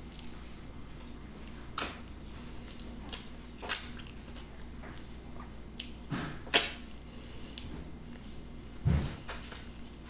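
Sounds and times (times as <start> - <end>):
man chewing with lip-smacking: 0.0 - 10.0.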